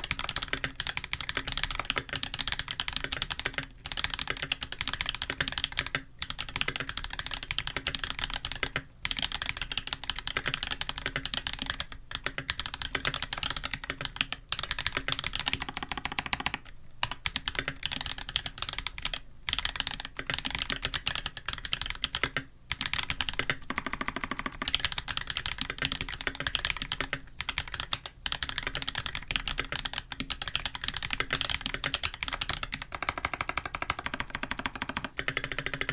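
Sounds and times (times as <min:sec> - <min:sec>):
fast typing on mechanical keyboard: 0:00.0 - 0:35.9.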